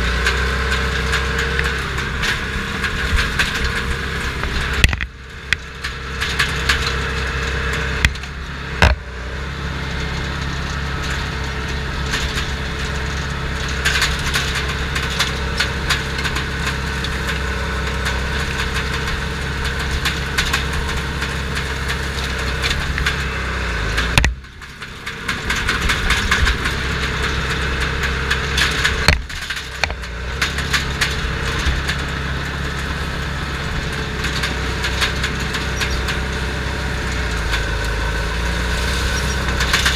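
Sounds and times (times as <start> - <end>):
bulldozer diesel engine running: 0.0 - 39.9
cracks and clanks: 0.1 - 9.2, 9.9 - 39.9.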